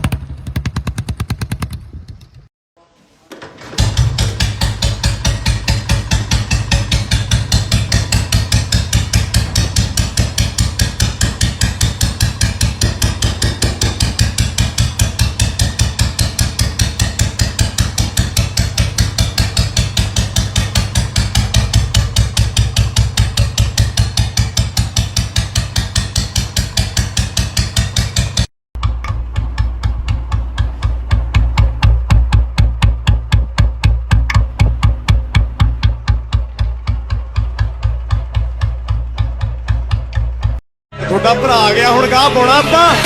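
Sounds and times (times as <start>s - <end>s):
motorcycle engine idling: 3.8s - 40.6s.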